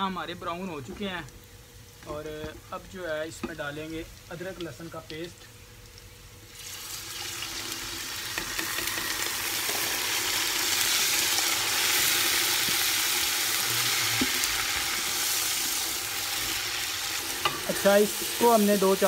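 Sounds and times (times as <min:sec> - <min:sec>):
paste sizzling in hot oil: 0:03.0 - 0:19.0.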